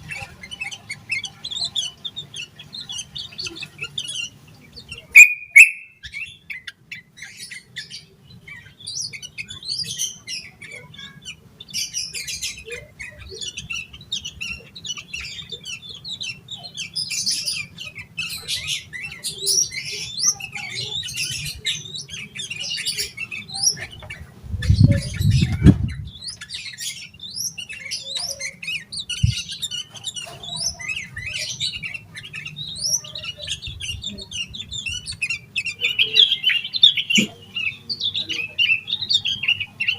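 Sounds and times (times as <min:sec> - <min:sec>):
bird singing and chattering: 0:00.0 - 0:39.9.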